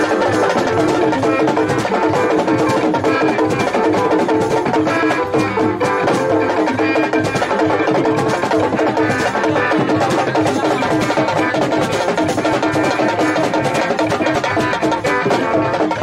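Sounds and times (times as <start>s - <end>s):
busy percussion: 0.0s - 16.0s.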